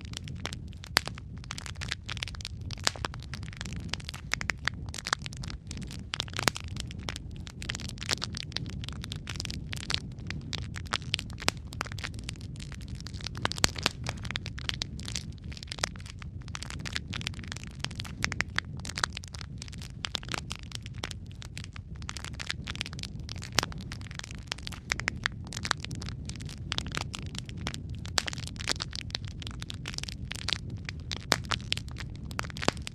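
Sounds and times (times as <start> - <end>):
low rumble of burning logs: 0.0 - 32.9
sharp pops and snaps: 0.0 - 32.9
wood fire crackling: 0.0 - 32.9.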